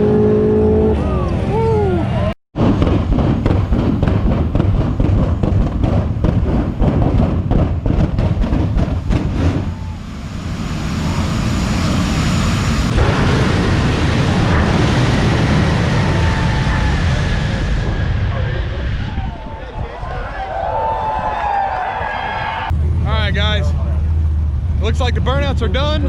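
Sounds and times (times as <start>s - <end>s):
steady rushing roar: 0.0s - 26.0s.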